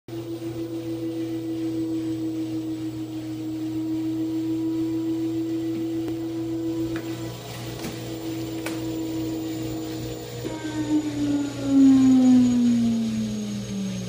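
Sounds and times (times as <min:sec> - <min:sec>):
washing machine spin humming: 0:00.1 - 0:14.0.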